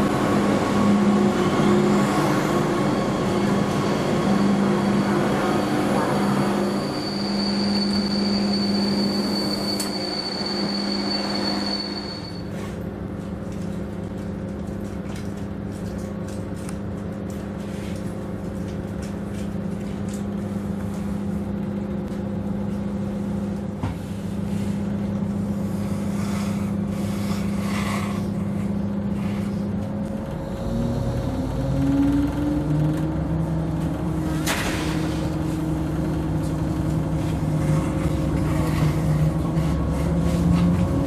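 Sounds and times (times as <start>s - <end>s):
diesel railcar engine: 0.0s - 41.0s.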